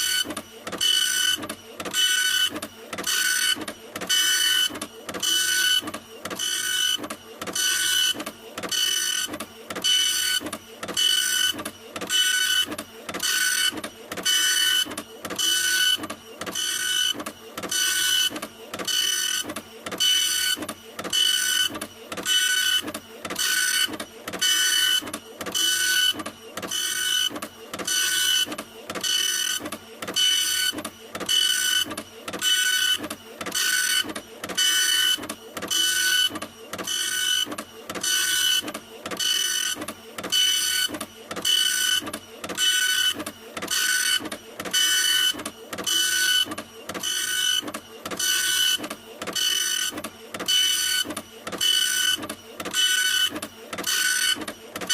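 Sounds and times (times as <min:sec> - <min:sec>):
printer running: 0:00.0 - 0:54.9.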